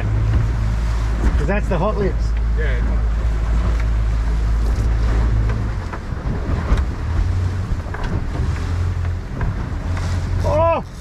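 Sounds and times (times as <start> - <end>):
boat motor rumble: 0.0 - 11.0
water slapping the hull: 0.0 - 11.0
wind buffeting microphone: 0.0 - 11.0.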